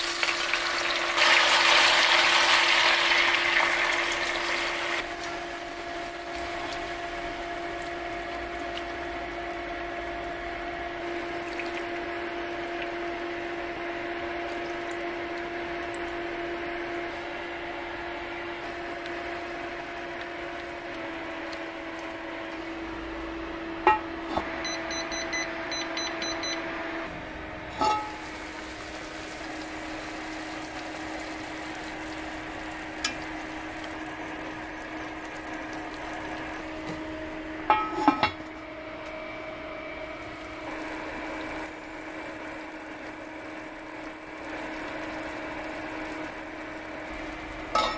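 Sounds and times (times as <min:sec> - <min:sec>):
two-note electrical hum: 0:00.0 - 0:47.9.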